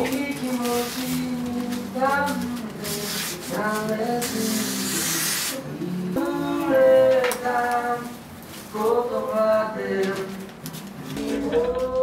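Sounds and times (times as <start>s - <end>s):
wavering wordless vocal tones: 0.0s - 12.0s.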